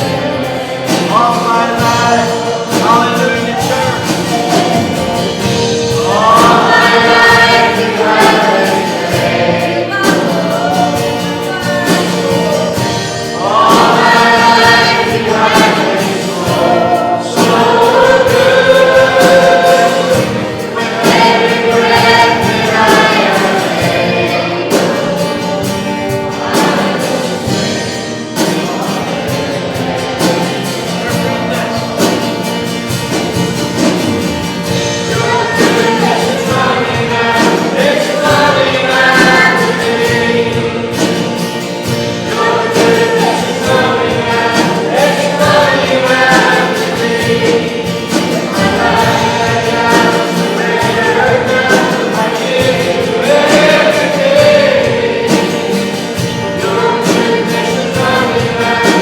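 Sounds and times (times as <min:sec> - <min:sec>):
congregation singing: 0:00.0 - 0:59.0
instrumental accompaniment: 0:00.0 - 0:59.0.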